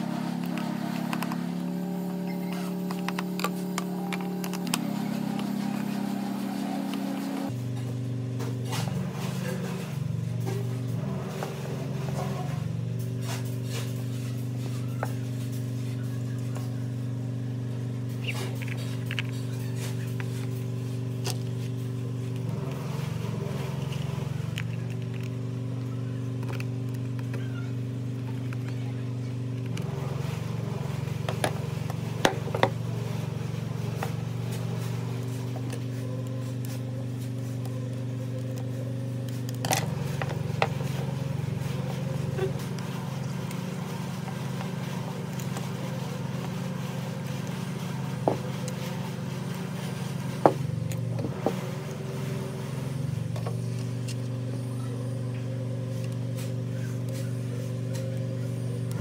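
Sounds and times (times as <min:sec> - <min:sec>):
low mechanical drone: 0:00.0 - 0:59.0.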